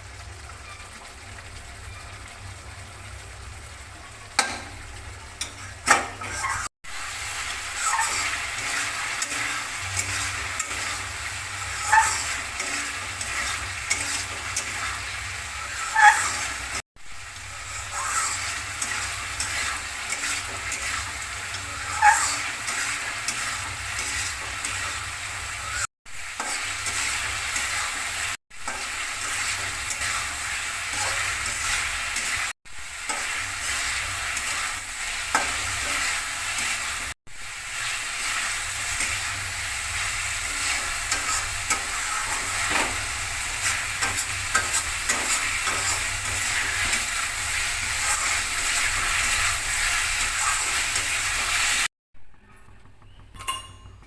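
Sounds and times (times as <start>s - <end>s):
food sizzling in a pan: 0.0s - 51.9s
spatula scraping a pan: 5.4s - 16.8s, 17.5s - 37.2s, 37.8s - 51.9s.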